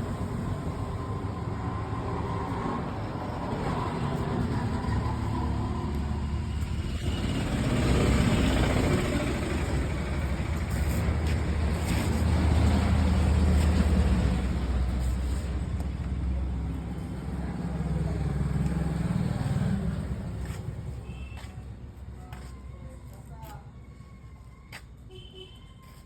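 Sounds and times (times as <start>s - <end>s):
low rumble of traffic: 0.0s - 26.0s.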